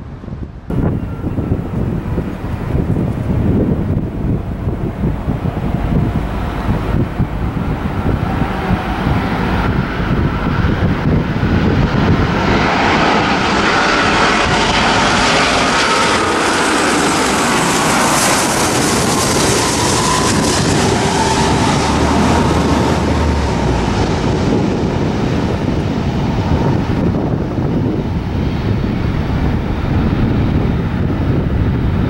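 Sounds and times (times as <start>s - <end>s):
jet airliner roar overhead: 0.0s - 32.0s.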